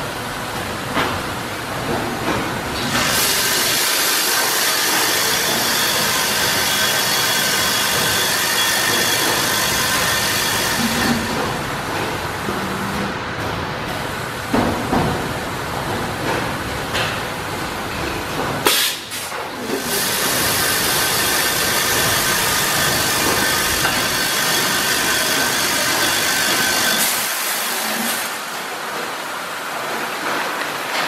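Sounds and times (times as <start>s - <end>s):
machine running noise: 0.0s - 31.0s.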